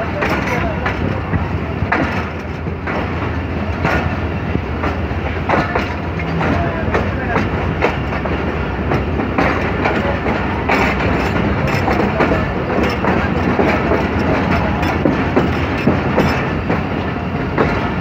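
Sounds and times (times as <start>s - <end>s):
wheels clicking over rail joints: 0.0s - 4.2s, 4.8s - 18.0s
train wheels rumbling on rails: 0.0s - 18.0s.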